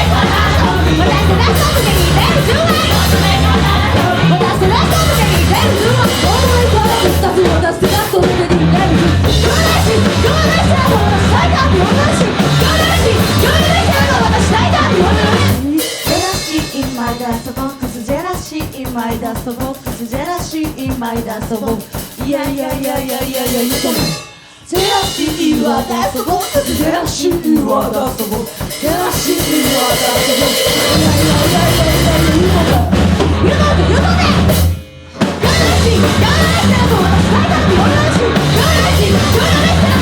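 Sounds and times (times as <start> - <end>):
person singing: 0.0 - 34.6, 35.4 - 40.0
fast drum beat: 0.0 - 40.0
punk rock band playing: 0.0 - 40.0.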